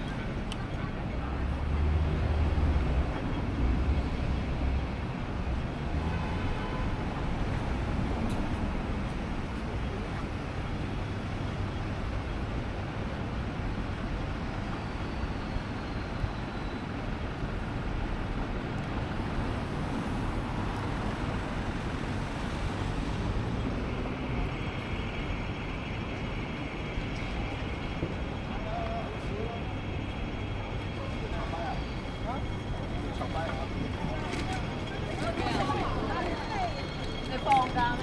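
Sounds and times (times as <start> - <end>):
city traffic hum: 0.0 - 38.0.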